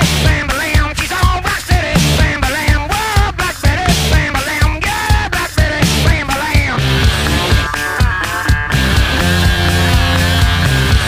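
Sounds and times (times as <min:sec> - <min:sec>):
loud rock music: 0:00.0 - 0:11.0
steady drum beat: 0:00.0 - 0:11.0.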